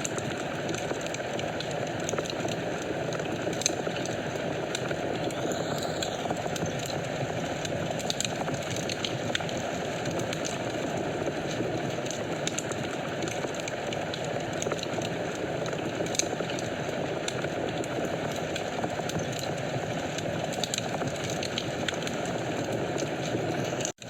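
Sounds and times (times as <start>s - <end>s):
fire crackling and popping: 0.0s - 24.0s
fire hissing in a fireplace: 0.0s - 24.0s.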